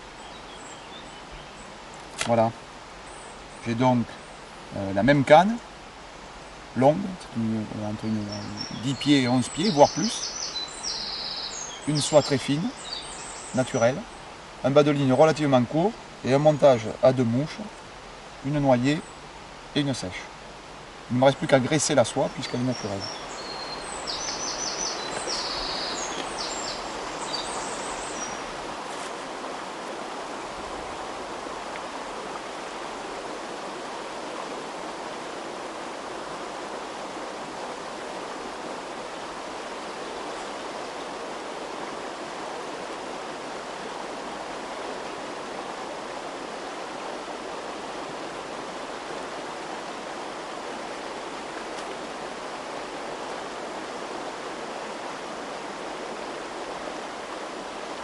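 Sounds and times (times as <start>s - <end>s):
river water rushing over rocks: 0.0s - 58.0s.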